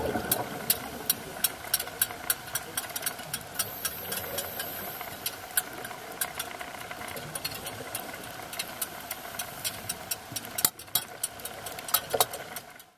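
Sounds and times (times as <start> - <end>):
sharp clicks and crackles: 0.0 - 12.9
underwater droning hum: 0.0 - 12.9.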